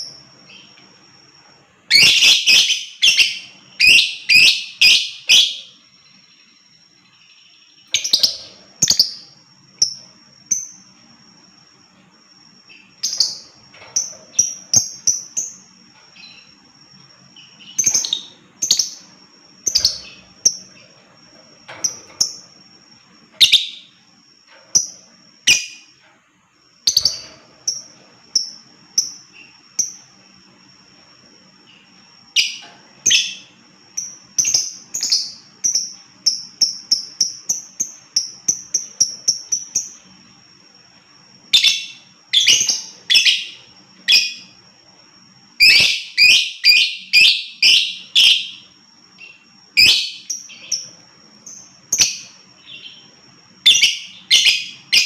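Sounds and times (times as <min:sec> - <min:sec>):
lovebird chirping: 0:01.8 - 0:26.0, 0:26.8 - 0:30.6, 0:31.5 - 0:40.3, 0:41.5 - 0:44.6, 0:45.4 - 0:55.0.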